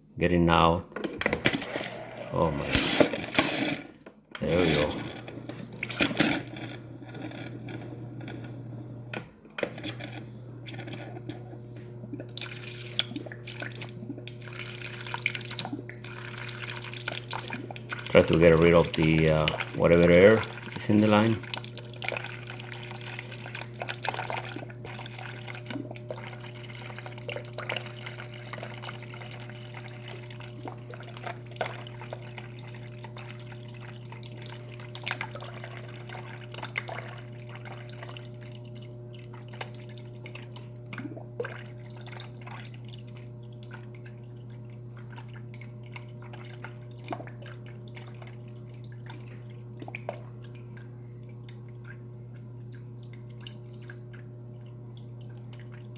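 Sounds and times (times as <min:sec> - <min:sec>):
steady low hum: 0:00.0 - 0:55.9
water spitting and dripping: 0:10.9 - 0:55.9.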